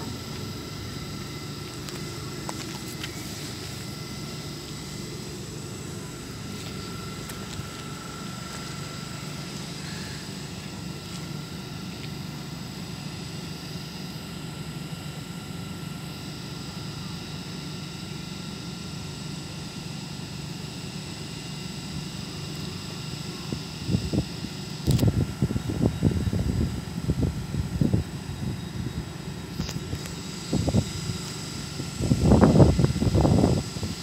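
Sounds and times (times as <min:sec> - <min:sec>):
high-pitched whine: 0:00.0 - 0:34.0
train equipment low drone: 0:00.0 - 0:34.0.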